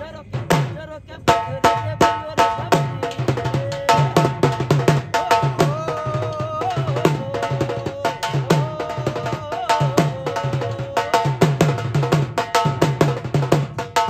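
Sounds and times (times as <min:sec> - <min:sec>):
hand drum beating: 0:00.4 - 0:14.0.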